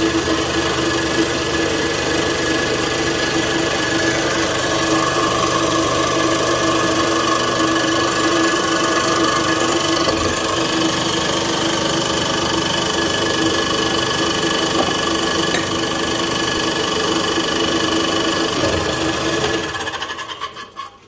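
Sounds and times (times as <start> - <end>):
electric motor hum and whine: 0.0 - 19.7.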